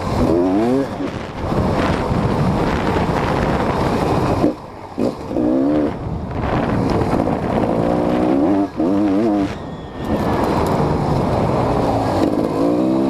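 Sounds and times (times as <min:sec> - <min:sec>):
dirt bike engine revving: 0:00.0 - 0:13.0
wind noise on microphone: 0:00.0 - 0:13.0.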